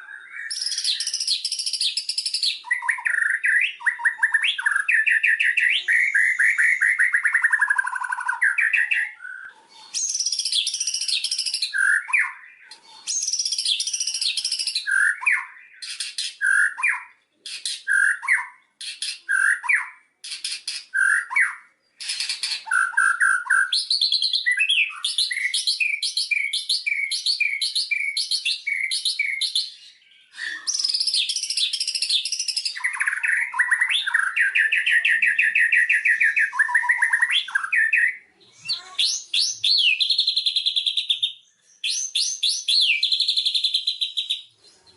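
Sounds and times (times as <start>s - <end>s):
bird singing whistles and trills: 0.0s - 44.9s.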